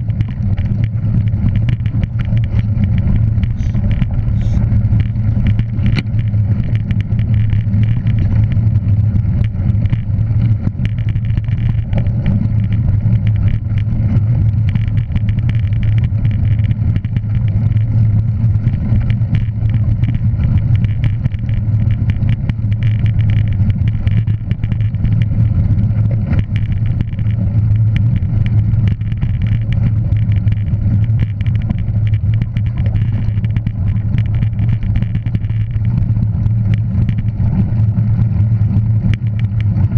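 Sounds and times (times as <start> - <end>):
light rattling ticks: 0.0 - 39.9
vehicle engine drone: 0.0 - 39.9.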